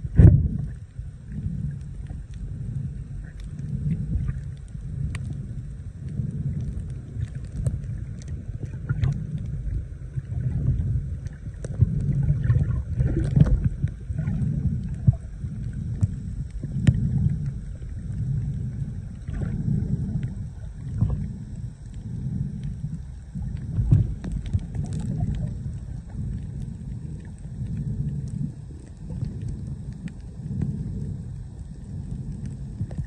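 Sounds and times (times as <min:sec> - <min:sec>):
low rumbling noise: 0:00.0 - 0:33.0
faint clicks: 0:00.6 - 0:10.3, 0:11.2 - 0:33.0.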